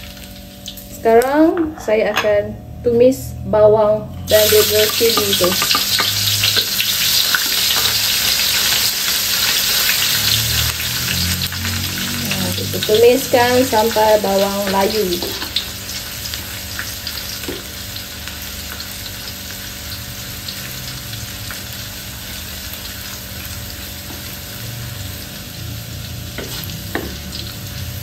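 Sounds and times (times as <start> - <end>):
vegetables sizzling in hot oil: 0.0 - 1.0, 4.3 - 28.0.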